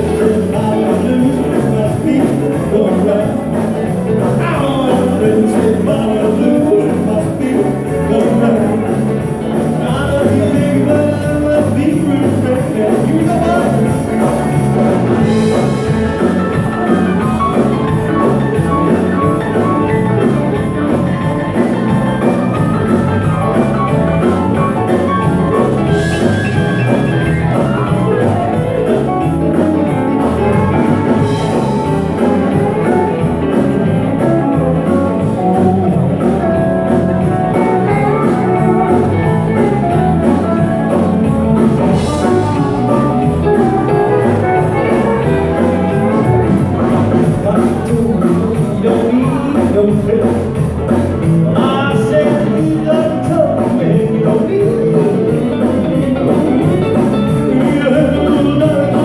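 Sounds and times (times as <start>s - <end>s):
drum kit beat: 0.0s - 59.0s
electric guitars: 0.0s - 59.0s.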